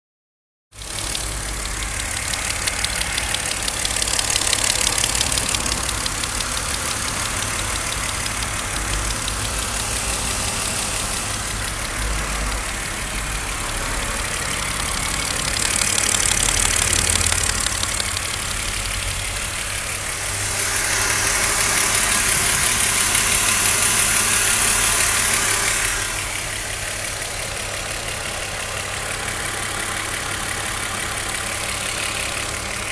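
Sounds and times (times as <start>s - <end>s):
car engine idling and revving: 0.7s - 32.9s.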